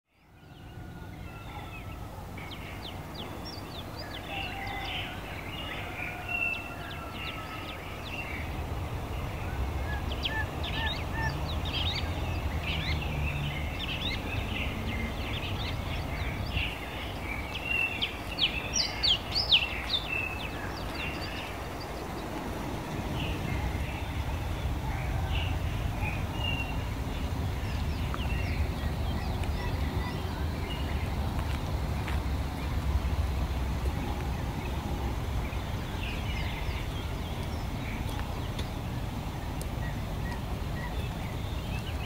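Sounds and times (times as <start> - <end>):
small birds chirping: 0.1 - 42.0.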